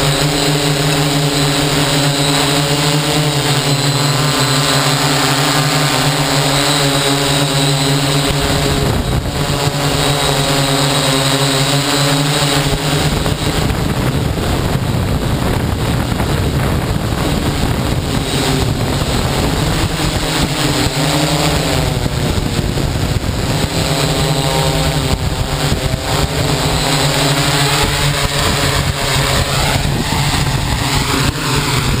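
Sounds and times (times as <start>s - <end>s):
drone propellers droning: 0.0s - 32.0s.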